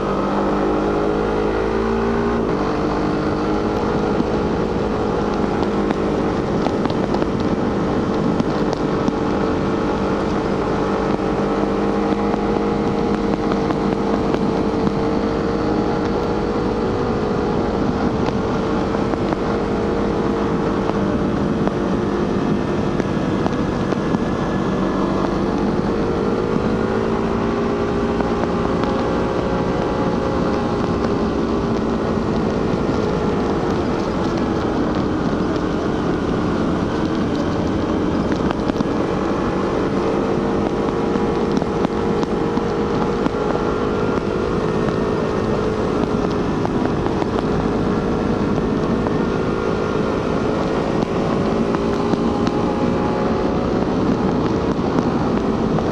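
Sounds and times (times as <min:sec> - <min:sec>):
motorcycle engine running: 0:00.0 - 0:55.9
wind rushing over microphone: 0:00.0 - 0:55.9.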